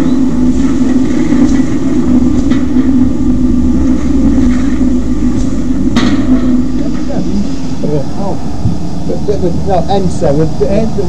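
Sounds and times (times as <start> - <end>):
conveyor machinery humming: 0.0 - 11.0.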